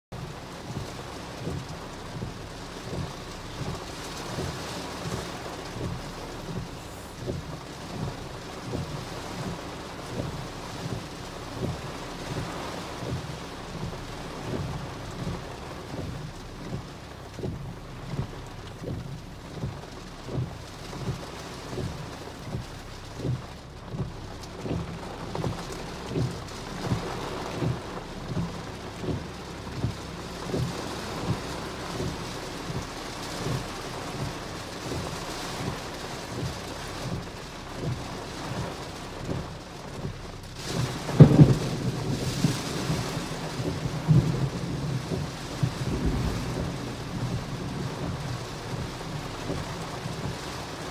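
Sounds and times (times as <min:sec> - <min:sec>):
heavy rain on car roof: 0:00.1 - 0:50.9
low rumble: 0:00.2 - 0:50.9
windshield wipers beating: 0:00.2 - 0:50.9.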